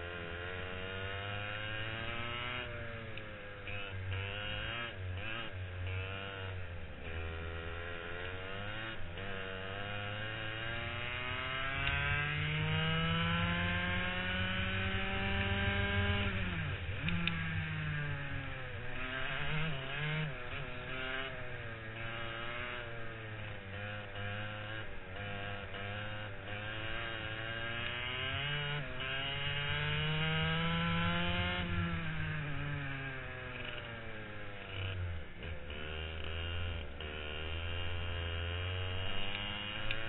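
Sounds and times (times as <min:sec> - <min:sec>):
kart engine revving: 0:00.0 - 0:40.0.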